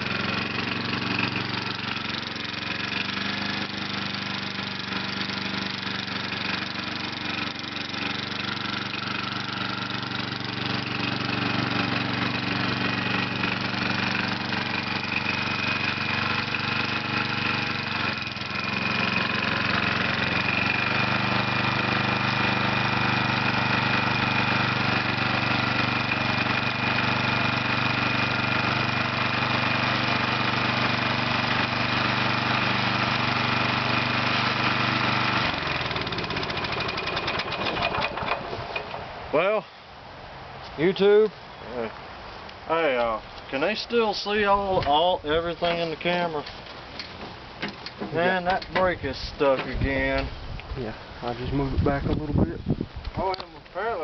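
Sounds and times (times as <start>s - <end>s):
single-cylinder engine with rod knock: 0.0s - 39.2s, 44.6s - 45.1s, 45.8s - 50.4s.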